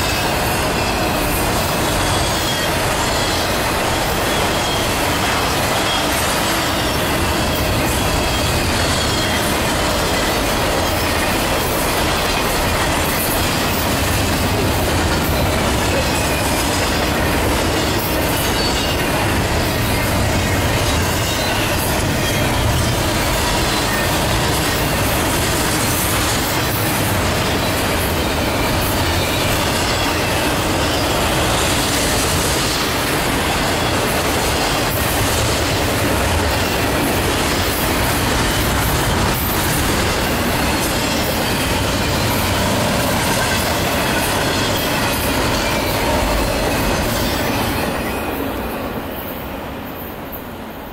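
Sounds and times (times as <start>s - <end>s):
freight train rolling past: 0.0s - 50.9s.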